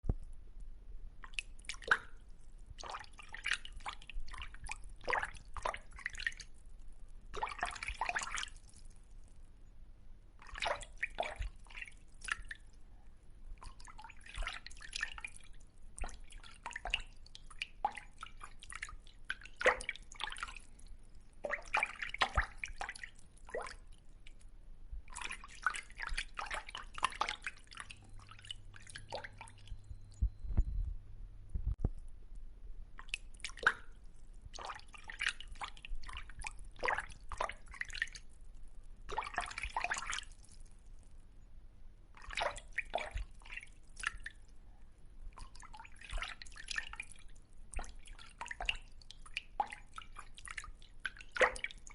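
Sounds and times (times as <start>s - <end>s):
water splashing and dripping: 1.2s - 6.6s, 7.3s - 9.1s, 10.4s - 12.8s, 13.6s - 30.3s, 33.0s - 40.6s, 42.2s - 44.5s, 45.3s - 51.9s.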